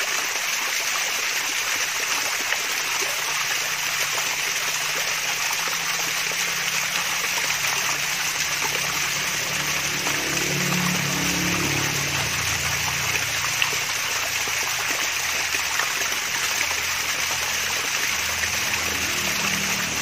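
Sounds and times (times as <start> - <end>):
waterfall splashing and trickling: 0.0 - 20.0.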